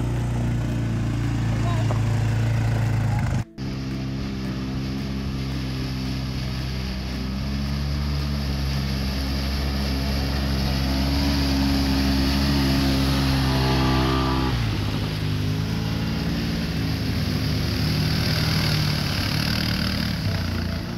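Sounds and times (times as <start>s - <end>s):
utility vehicle engine running: 0.0s - 20.9s
water splashing around wheels: 0.0s - 20.9s.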